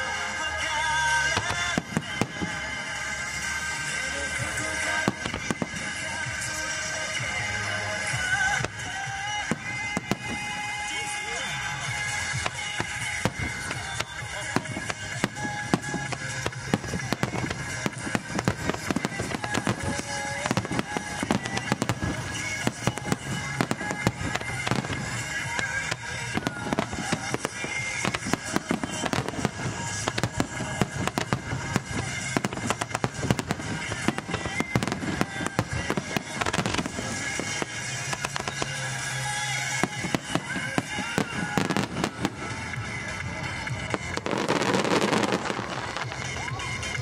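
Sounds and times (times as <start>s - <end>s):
fireworks bursting and crackling: 0.0s - 47.0s
fireworks launching: 0.0s - 47.0s
music playing: 0.0s - 47.0s.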